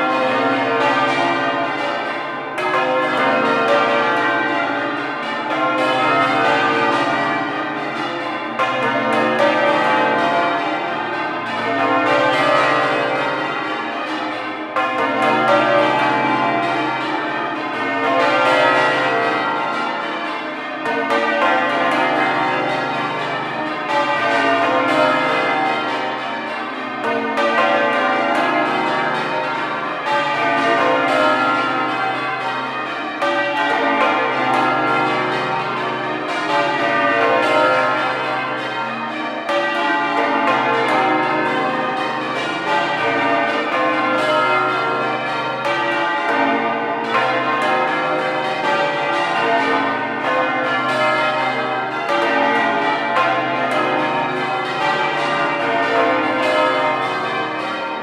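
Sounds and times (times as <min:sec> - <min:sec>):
church bells change ringing: 0:00.0 - 0:58.0.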